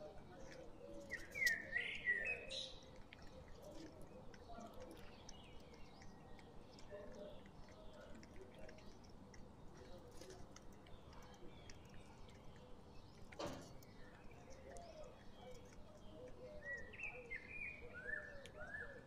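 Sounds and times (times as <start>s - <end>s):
beaks pecking on concrete: 0.0s - 19.0s
birds calling faintly: 0.0s - 19.0s.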